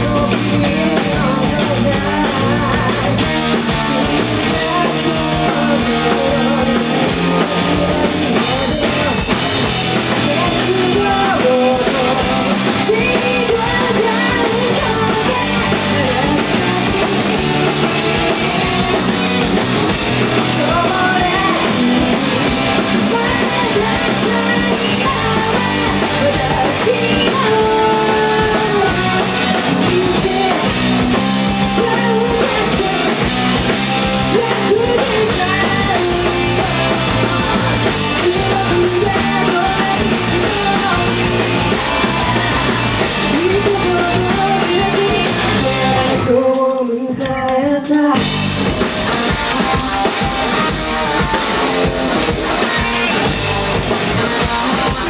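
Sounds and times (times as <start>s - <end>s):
drum kit: 0.0s - 55.0s
electric guitars: 0.0s - 55.0s
person singing: 0.0s - 55.0s.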